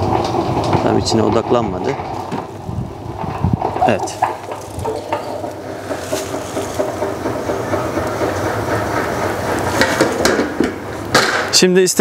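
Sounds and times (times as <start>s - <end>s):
honey extractor whirring: 0.0s - 11.6s.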